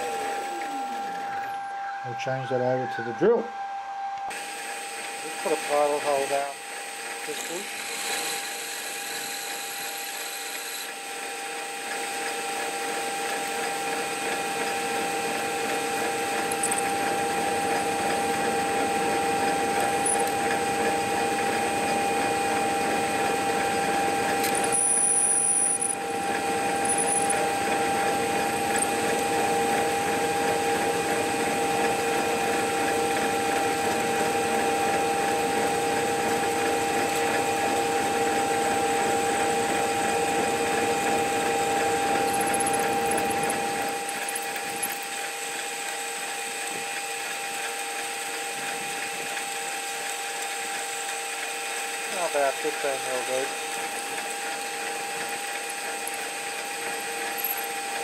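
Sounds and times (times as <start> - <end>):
metal lathe whining: 0.0 - 58.0.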